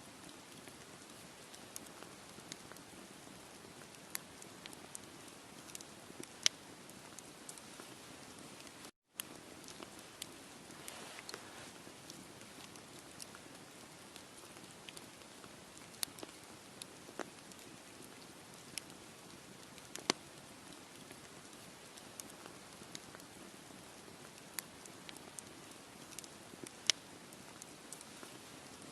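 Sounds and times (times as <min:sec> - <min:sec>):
campfire crackling and popping: 0:00.1 - 0:28.9.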